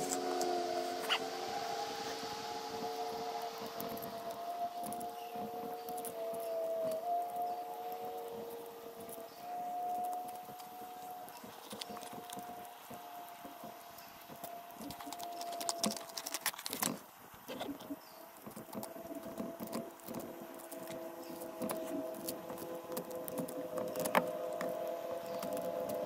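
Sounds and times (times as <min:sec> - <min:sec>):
faint steady hum: 0:00.0 - 0:26.0
light clicks and scrapes: 0:02.8 - 0:26.0.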